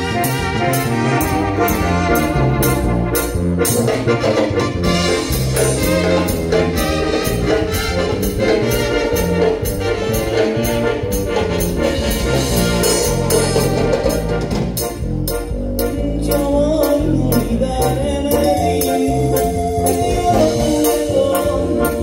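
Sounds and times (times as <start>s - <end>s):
live band playing dance music: 0.0s - 22.0s.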